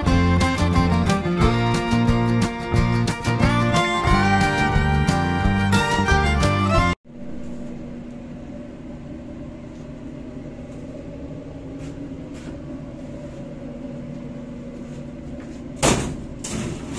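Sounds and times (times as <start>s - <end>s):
machine hum: 0.0s - 16.9s.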